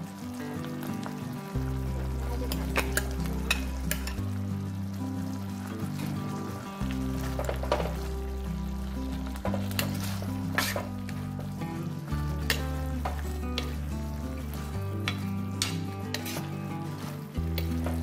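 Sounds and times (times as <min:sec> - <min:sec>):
background music: 0:00.0 - 0:18.0
wet mixing noise: 0:00.5 - 0:18.0.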